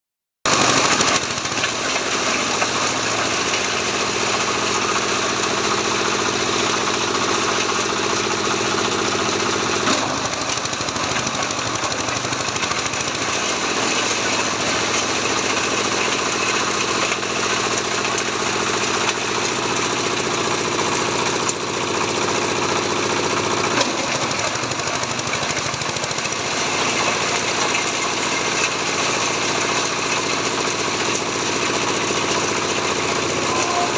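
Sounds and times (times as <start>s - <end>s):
chopper-shredder clattering grind: 0.5s - 33.9s.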